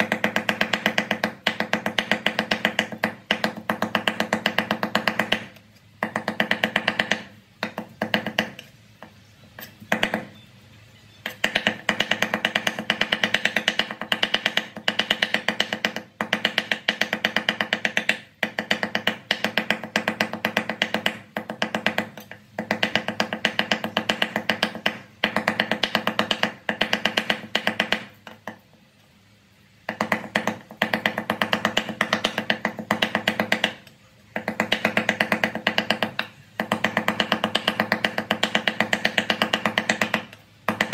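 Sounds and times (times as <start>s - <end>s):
cleaver chopping on wooden board: 0.0s - 10.3s, 11.2s - 28.6s, 29.9s - 40.9s.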